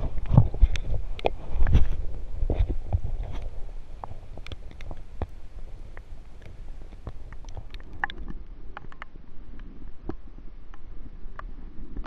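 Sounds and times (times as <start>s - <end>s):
underwater river current rumble: 0.0s - 12.0s.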